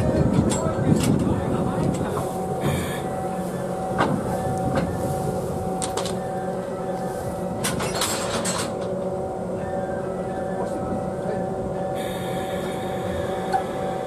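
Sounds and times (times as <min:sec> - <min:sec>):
locomotive machinery humming: 0:00.0 - 0:14.0.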